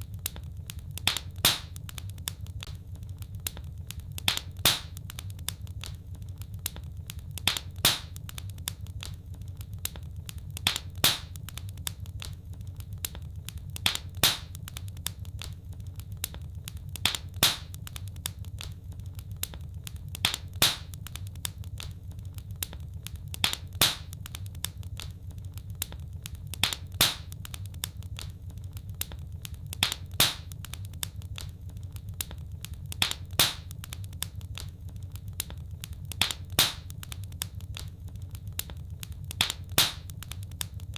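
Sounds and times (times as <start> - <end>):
fire crackling and popping: 0.0 - 40.9
steady low hum: 0.0 - 40.9.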